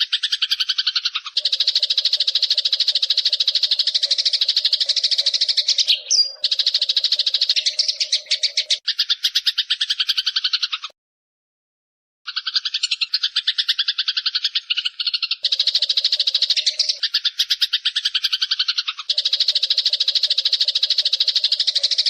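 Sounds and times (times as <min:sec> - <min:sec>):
sparrow chattering call: 0:00.0 - 0:10.9, 0:12.3 - 0:22.0.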